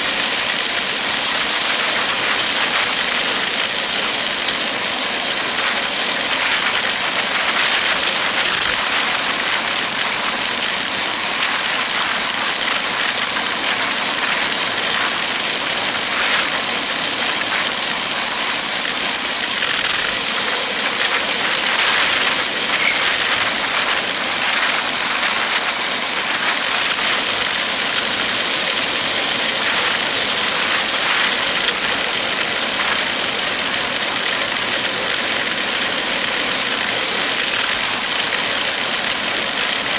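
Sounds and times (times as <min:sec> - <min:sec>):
bicycle tyres rolling on asphalt: 0:00.0 - 0:39.9
highway traffic passing: 0:01.0 - 0:39.9.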